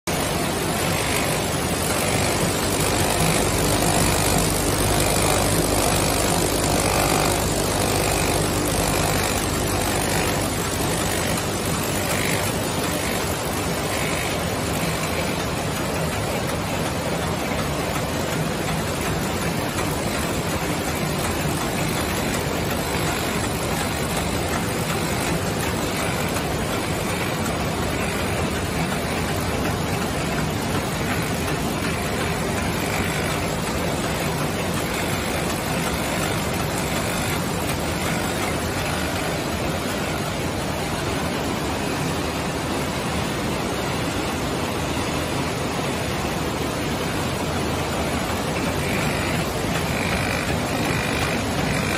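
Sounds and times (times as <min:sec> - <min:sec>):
factory machines mechanical din: 0:00.1 - 0:51.9.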